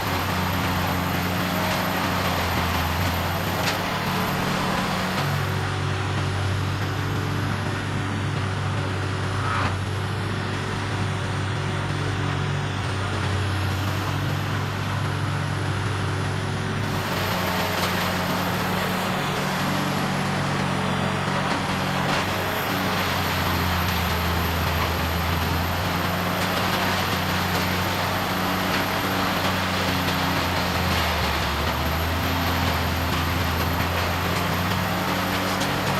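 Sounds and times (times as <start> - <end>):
wood grinding: 0.0 - 5.9, 11.9 - 35.9
diesel engine hum: 0.0 - 35.9.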